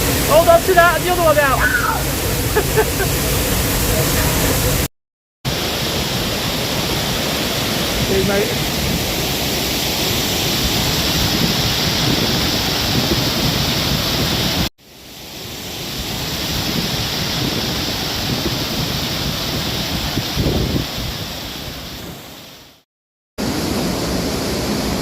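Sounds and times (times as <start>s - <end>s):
waterfall rushing: 0.0s - 4.9s, 5.5s - 22.8s, 23.4s - 25.0s.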